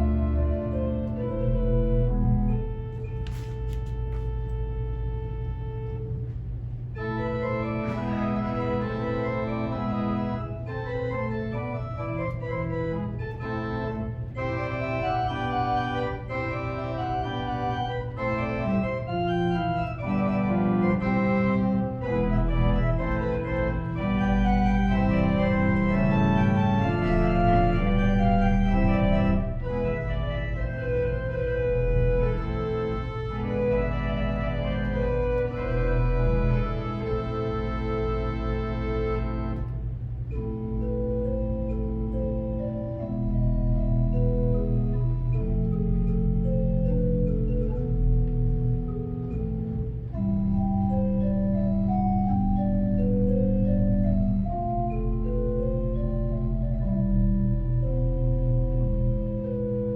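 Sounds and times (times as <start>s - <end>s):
organ chords over bass note: 0.0s - 59.9s.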